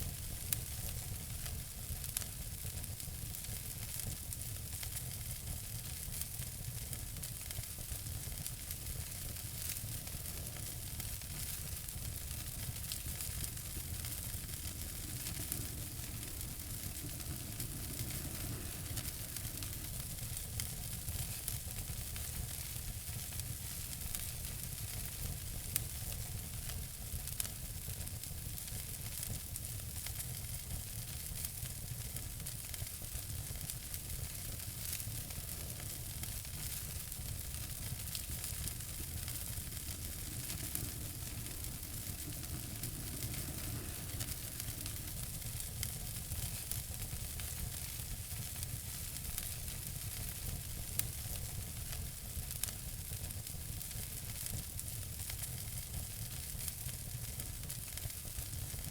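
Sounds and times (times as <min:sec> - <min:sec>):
fire hiss and rumble: 0:00.0 - 0:58.9
wood fire crackling: 0:00.0 - 0:58.9.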